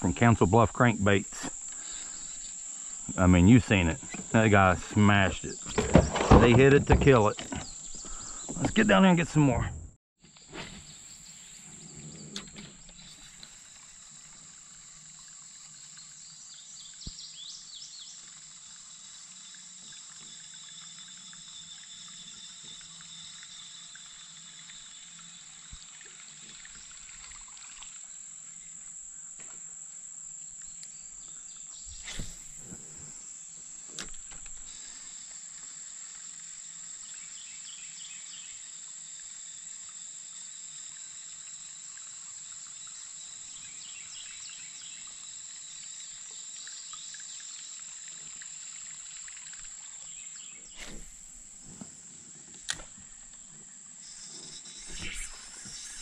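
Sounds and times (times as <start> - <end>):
faint water noise: 0.0 - 9.8, 10.8 - 56.0
insects chirring: 0.0 - 56.0.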